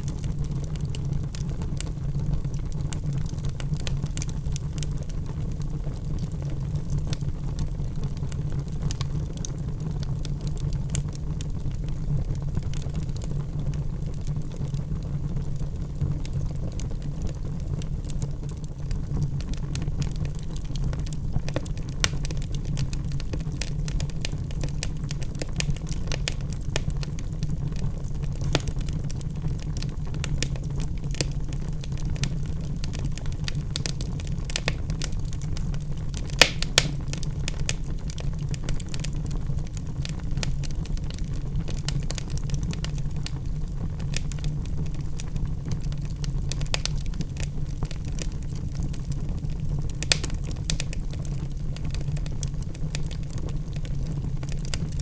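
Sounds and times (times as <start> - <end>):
fire crackling and popping: 0.0 - 55.0
log fire rumbling: 0.0 - 55.0.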